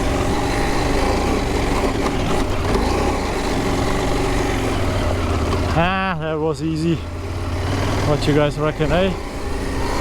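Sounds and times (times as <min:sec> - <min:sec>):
motorcycle engine under throttle: 0:00.0 - 0:10.0.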